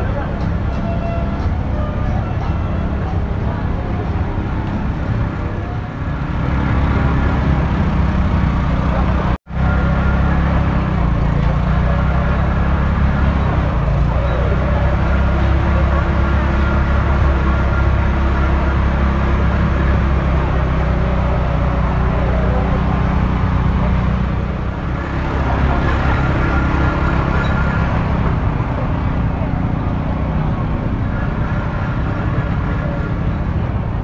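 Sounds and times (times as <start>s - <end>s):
crowd of voices: 0.0s - 34.0s.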